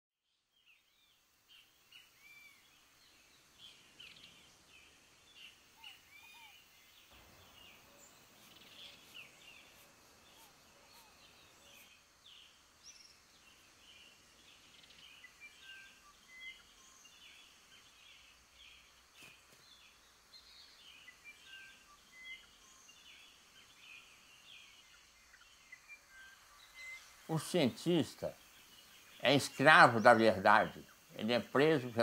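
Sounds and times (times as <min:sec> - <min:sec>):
soft background hiss: 0:00.3 - 0:32.0
birds chirping: 0:00.4 - 0:32.0.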